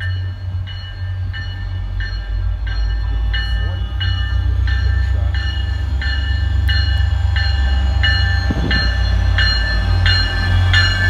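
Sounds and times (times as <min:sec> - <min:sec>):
diesel locomotive engine rumble: 0:00.0 - 0:11.0
locomotive bell ringing: 0:00.0 - 0:11.0.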